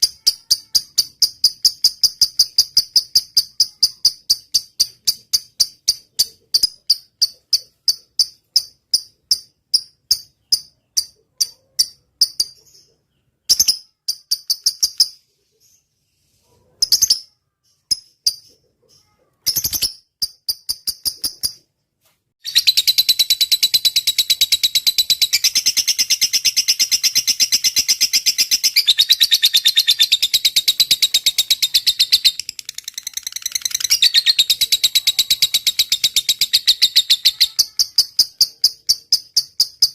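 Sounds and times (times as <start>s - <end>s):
bird sharp high chirps: 0.0s - 21.6s, 22.4s - 39.9s.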